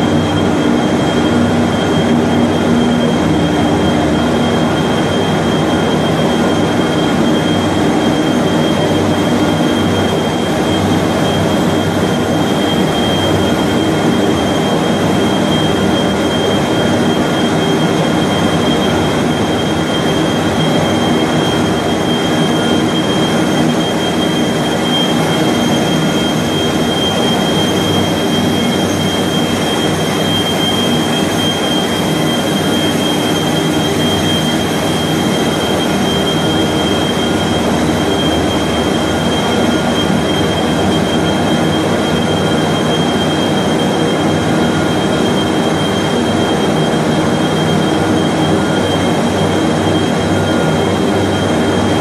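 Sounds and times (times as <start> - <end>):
high whine: 0.0 - 52.0
industrial machinery drone: 0.0 - 52.0.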